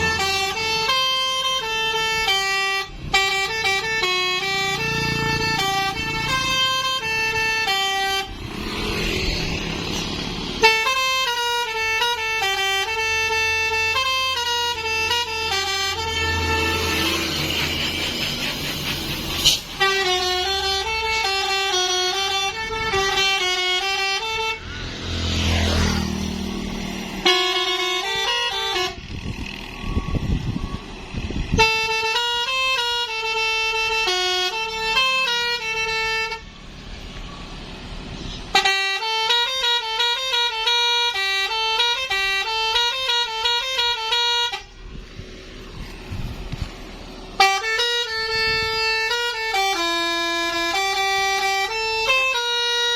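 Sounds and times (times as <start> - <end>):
multi-tone horn melody: 0.0 - 29.1, 31.4 - 36.6, 38.5 - 45.0, 47.3 - 52.9.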